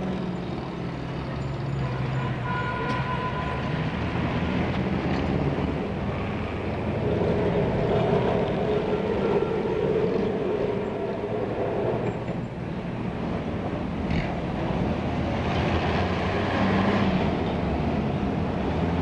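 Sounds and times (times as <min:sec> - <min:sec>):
tram rumbling along track: 0:00.0 - 0:19.0.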